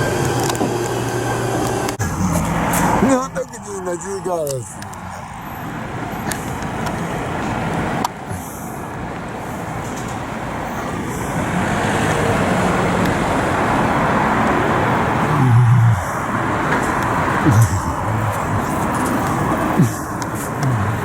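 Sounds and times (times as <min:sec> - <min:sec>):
street traffic noise: 0:00.0 - 0:21.0.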